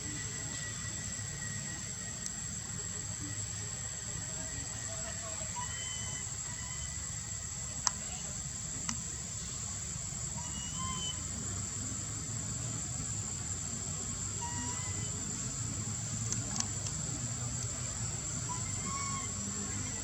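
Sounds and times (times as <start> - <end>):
high-pitched insect drone: 0.0 - 8.4, 9.3 - 20.0.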